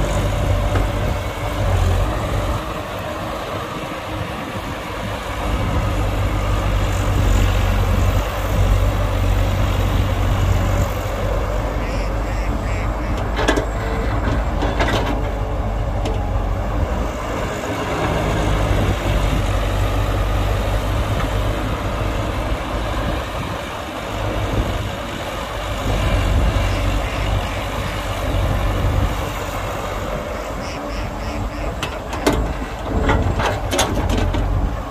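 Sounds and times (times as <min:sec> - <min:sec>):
heavy machinery diesel engine: 0:00.0 - 0:34.9.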